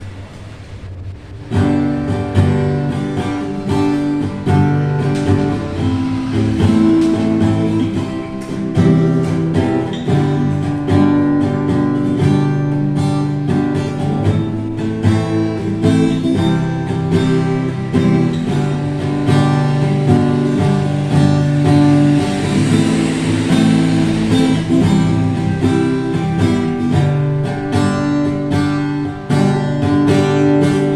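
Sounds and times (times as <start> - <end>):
acoustic guitar strummed and picked: 0.0 - 30.9.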